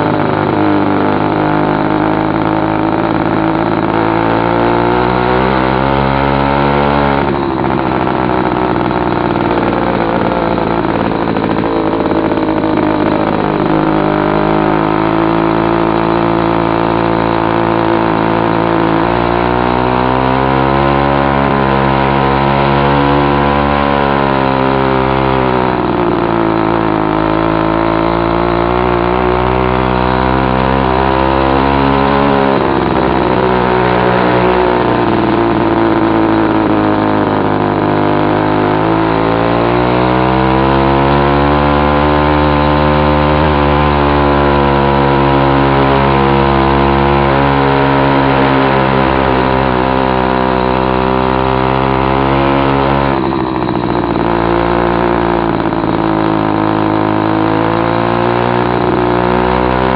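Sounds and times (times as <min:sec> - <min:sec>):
two-stroke bicycle engine climbing: 0:00.0 - 0:59.9.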